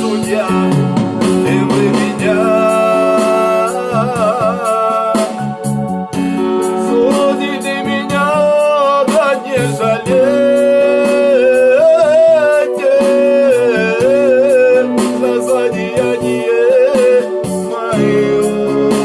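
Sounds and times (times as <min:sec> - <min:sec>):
instrumental music with wavering lead: 0:00.0 - 0:19.0.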